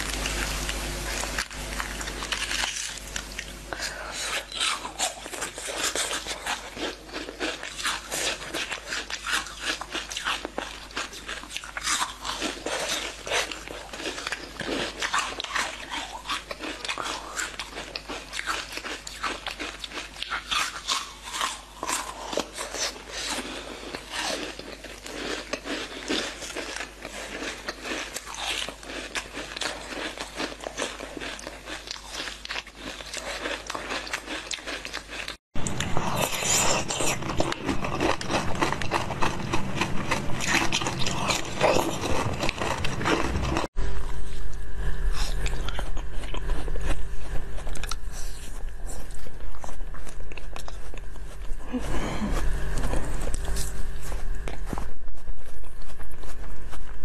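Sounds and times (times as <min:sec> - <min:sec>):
crunching frozen chocolate: 0:00.0 - 0:56.9.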